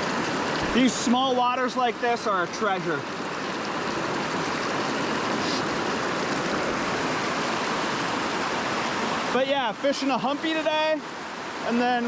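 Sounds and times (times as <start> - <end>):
creek water tumbling over rocks: 0.0 - 12.0.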